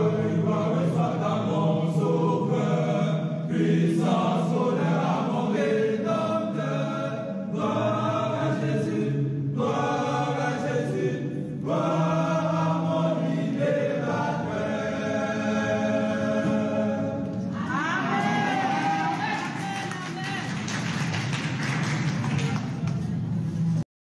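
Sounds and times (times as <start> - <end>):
choir singing: 0.0 - 19.6.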